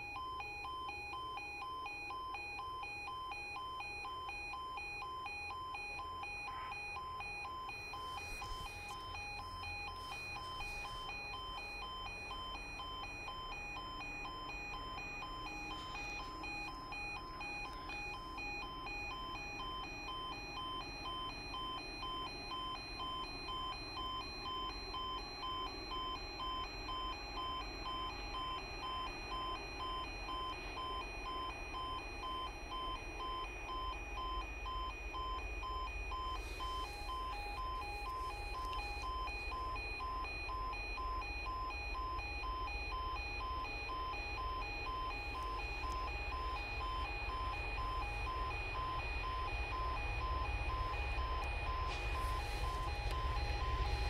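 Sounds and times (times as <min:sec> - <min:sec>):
pulsing electronic alarm tones: 0:00.0 - 0:54.0.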